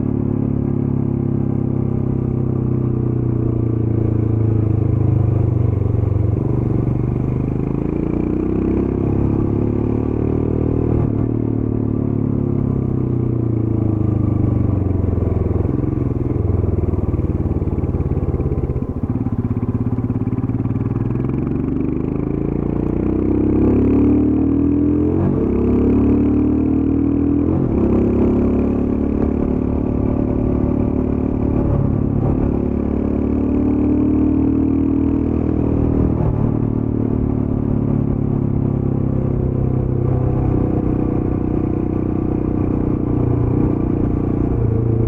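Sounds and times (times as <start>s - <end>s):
motorcycle engine while riding: 0.0s - 45.0s.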